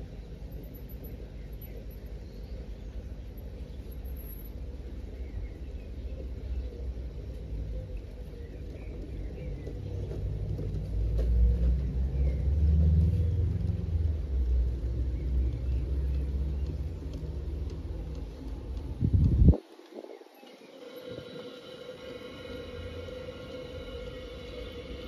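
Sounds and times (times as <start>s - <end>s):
model train rumbling on track: 0.0s - 25.0s.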